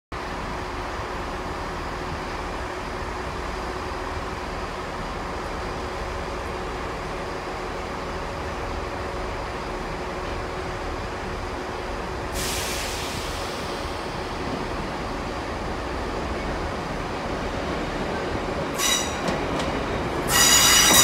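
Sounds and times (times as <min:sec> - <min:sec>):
diesel trains humming: 0:00.2 - 0:21.0.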